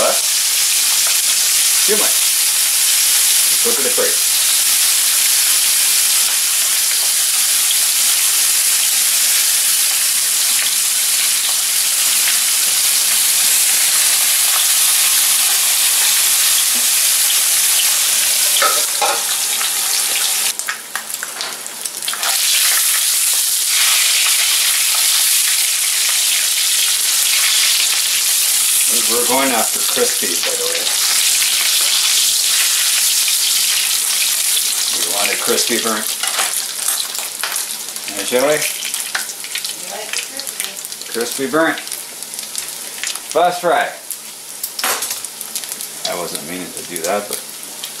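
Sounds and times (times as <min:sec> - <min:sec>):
food sizzling in a frying pan: 0:00.0 - 0:48.0.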